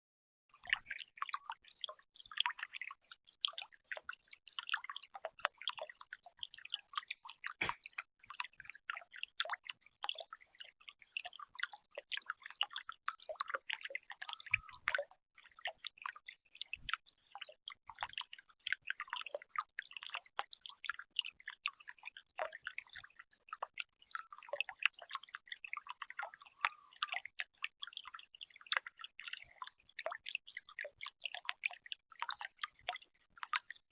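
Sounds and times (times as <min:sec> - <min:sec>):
water dripping and splashing: 0:00.6 - 0:33.9.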